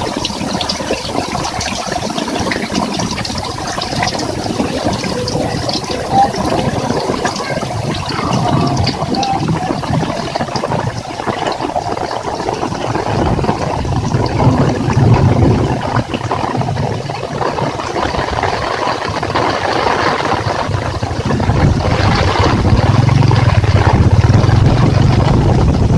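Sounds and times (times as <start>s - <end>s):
heavy rain pouring: 0.0s - 25.9s
wind buffeting microphone: 0.0s - 25.9s.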